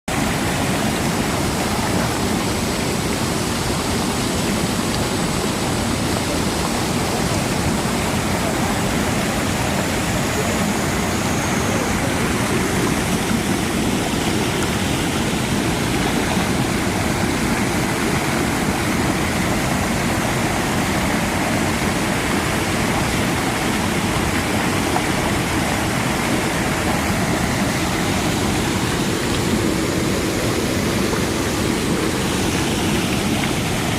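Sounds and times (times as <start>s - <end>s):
stream rushing: 0.1s - 33.9s.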